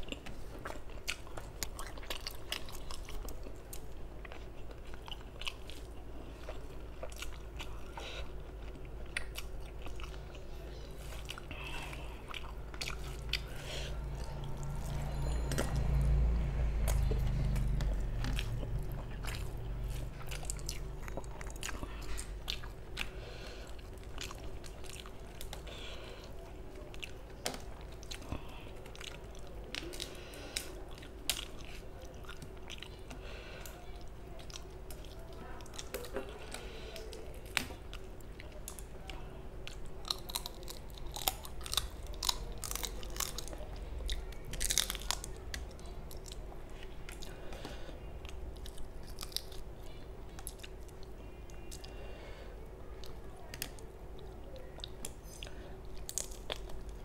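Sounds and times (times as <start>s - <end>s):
close chewing with mouth clicks: 0.0s - 52.1s, 52.8s - 57.0s.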